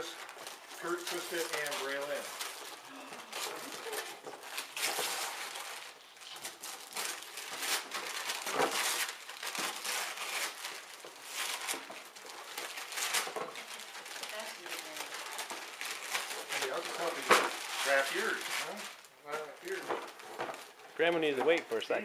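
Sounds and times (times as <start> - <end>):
wrapping paper tearing and crumpling: 0.0 - 21.9.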